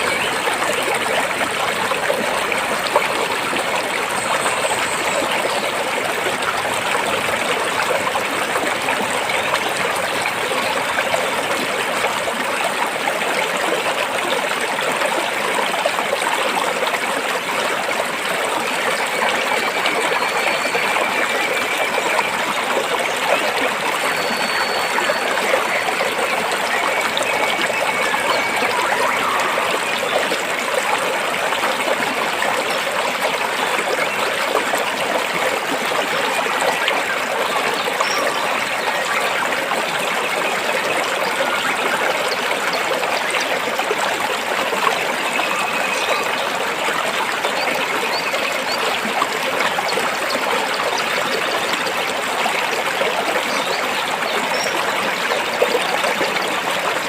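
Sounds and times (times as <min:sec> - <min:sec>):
stream water running over rocks: 0:00.0 - 0:57.0.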